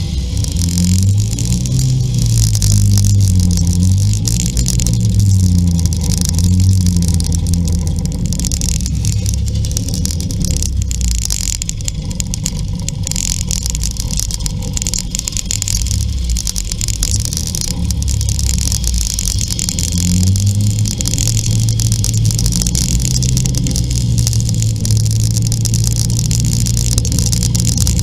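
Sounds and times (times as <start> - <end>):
two-stroke scooter engines running: 0.0 - 28.0.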